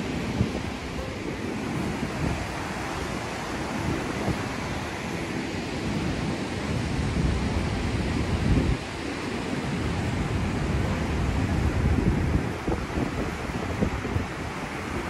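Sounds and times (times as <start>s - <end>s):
churning river water rushing: 0.0s - 15.0s
wind gusting on microphone: 0.0s - 15.0s.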